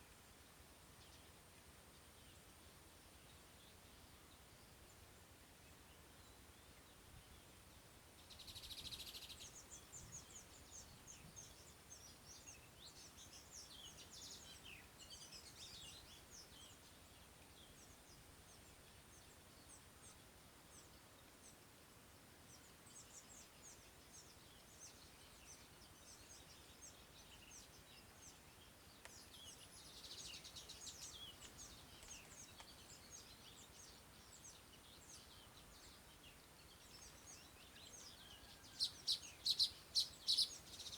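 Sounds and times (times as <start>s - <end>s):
small birds chirping: 5.6s - 40.9s.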